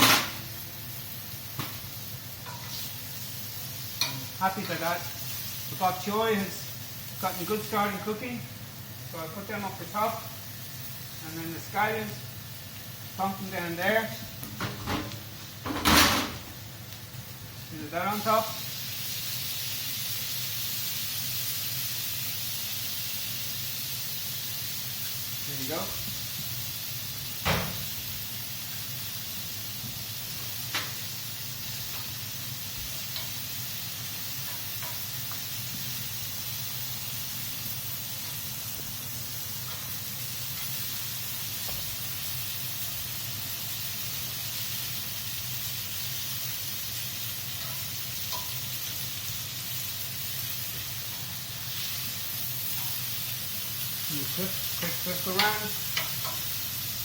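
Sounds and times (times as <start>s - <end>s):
vegetables sizzling on a grill: 0.0s - 57.0s.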